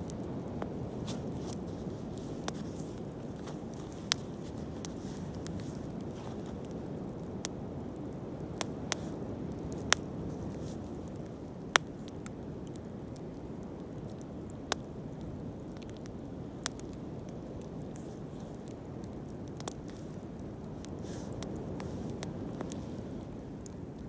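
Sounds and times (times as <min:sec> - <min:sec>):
bonfire low rumble: 0:00.0 - 0:24.0
burning wood crackles and pops: 0:00.0 - 0:24.0.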